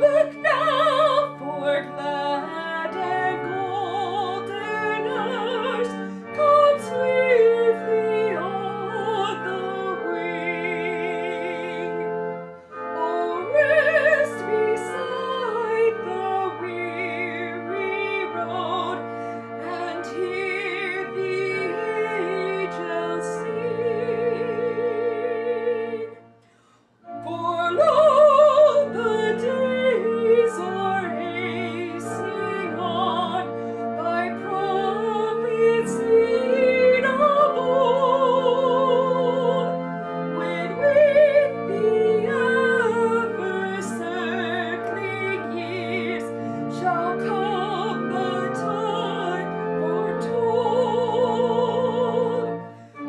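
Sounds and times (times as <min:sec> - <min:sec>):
woman singing operatically: 0:00.0 - 0:12.0, 0:13.0 - 0:19.0, 0:19.6 - 0:26.1, 0:27.2 - 0:39.7, 0:40.4 - 0:52.5
instrumental accompaniment: 0:00.0 - 0:53.0.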